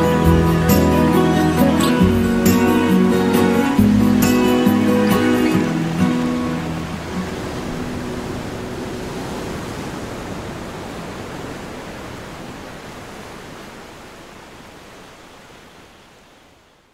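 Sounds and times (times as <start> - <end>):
ocean surf rushing: 0.0 - 16.0.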